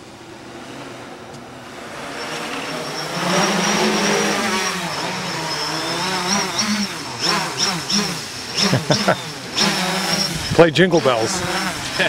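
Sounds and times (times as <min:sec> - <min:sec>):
drone motors buzzing: 0:00.0 - 0:12.0.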